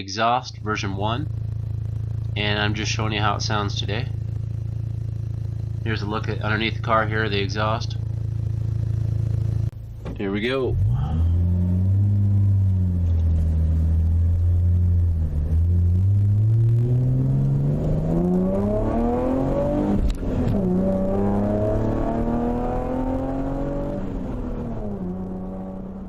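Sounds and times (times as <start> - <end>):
car engine revving: 0.6 - 26.0.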